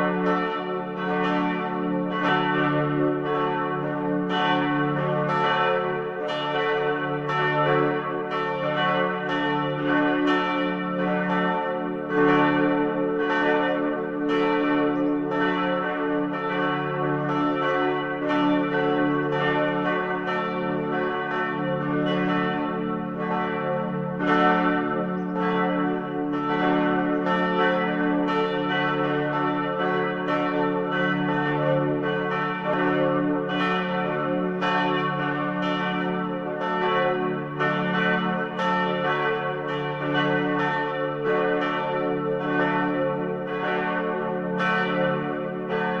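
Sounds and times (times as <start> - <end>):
church bells pealing: 0.0 - 46.0.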